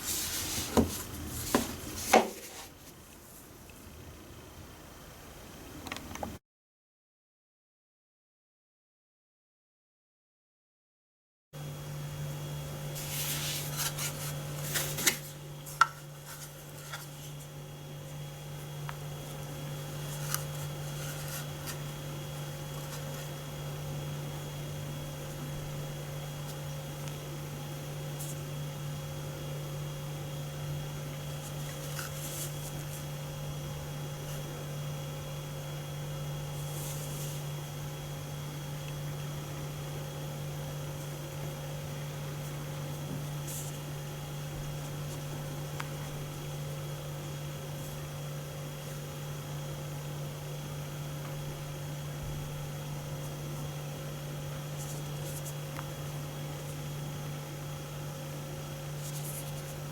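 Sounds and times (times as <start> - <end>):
low electrical hum: 0.0 - 6.4, 11.6 - 59.9.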